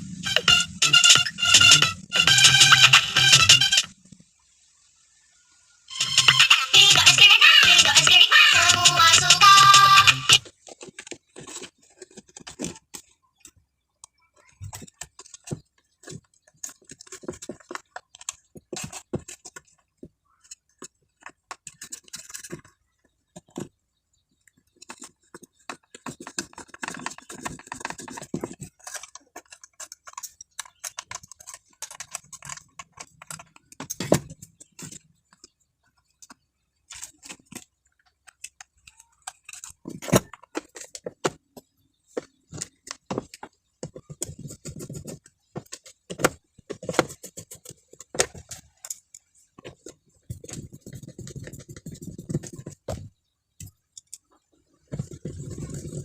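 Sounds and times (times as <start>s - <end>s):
small clicks and taps: 8.6s - 55.9s.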